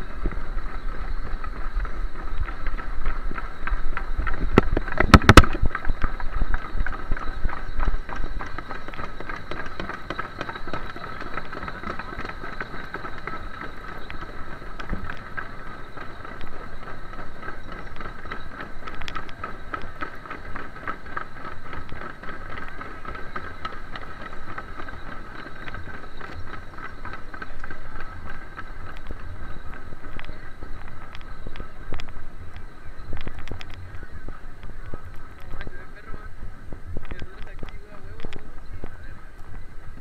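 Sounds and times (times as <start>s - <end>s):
crowd footsteps: 0.0s - 40.0s.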